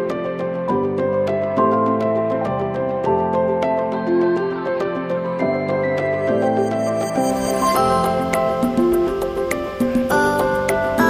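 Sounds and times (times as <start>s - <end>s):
calm background music: 0.0s - 11.0s.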